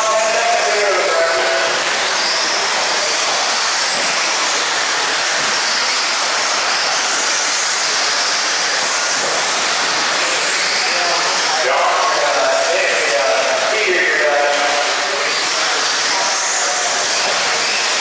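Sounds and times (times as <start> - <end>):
rc car motors whining: 0.0 - 18.0.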